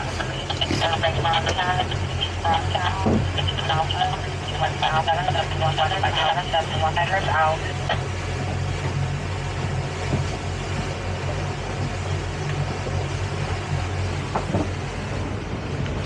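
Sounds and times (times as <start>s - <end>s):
motorboat engine drone: 0.0s - 16.0s
wind and water rushing past hull: 0.0s - 16.0s.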